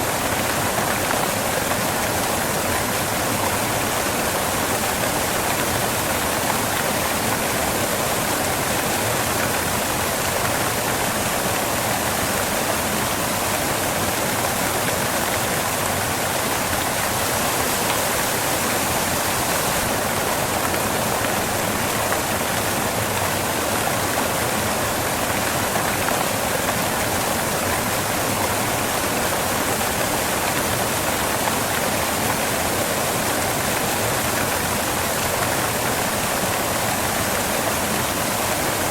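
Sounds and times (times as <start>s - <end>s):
waterfall crashing onto rocks: 0.0s - 38.9s.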